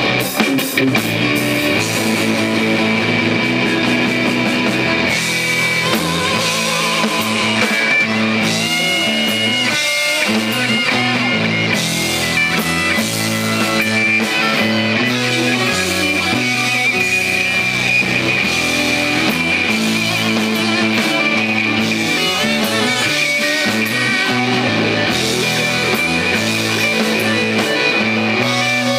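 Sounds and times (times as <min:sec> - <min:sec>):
bass guitar: 0:00.0 - 0:28.9
drum kit: 0:00.0 - 0:28.9
electric guitars: 0:00.0 - 0:28.9.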